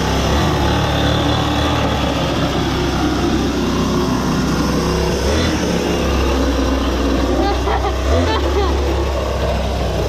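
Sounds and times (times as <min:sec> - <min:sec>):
small go-kart engine running: 0:00.0 - 0:10.0.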